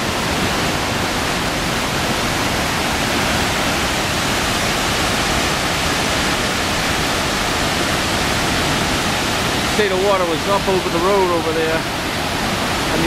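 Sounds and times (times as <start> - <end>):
rushing white water: 0.0 - 13.0.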